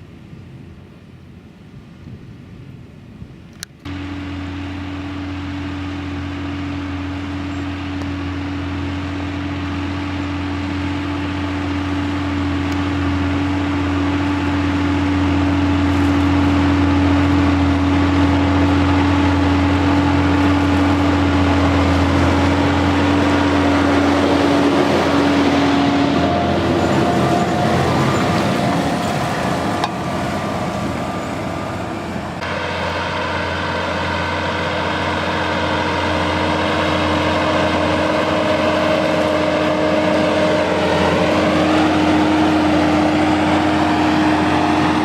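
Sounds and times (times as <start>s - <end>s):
tractor diesel engine droning: 3.8s - 45.0s.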